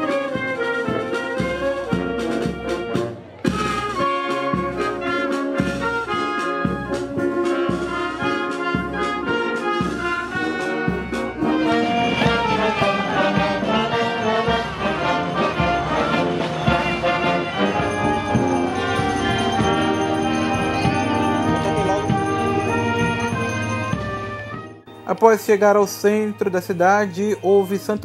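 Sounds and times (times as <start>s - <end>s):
brass band playing: 0.0s - 28.0s.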